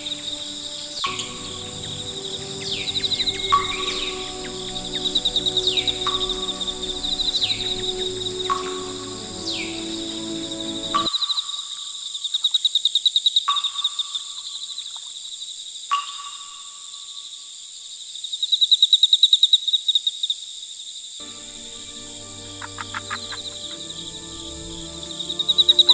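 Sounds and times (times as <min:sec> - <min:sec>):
insect chirping trills: 0:00.0 - 0:25.9.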